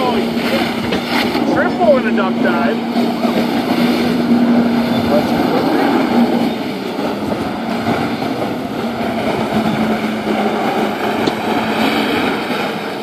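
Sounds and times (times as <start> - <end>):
rushing water and spray: 0.0 - 13.0
watercraft engine humming: 0.0 - 13.0.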